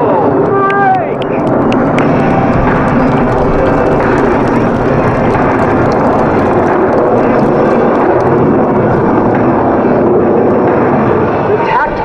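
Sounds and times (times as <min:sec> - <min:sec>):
jet aircraft noise: 0:00.0 - 0:12.0.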